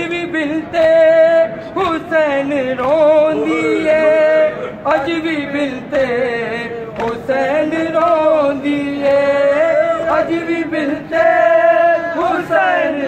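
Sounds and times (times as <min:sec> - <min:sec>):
voices chanting a lament: 0:00.0 - 0:13.0.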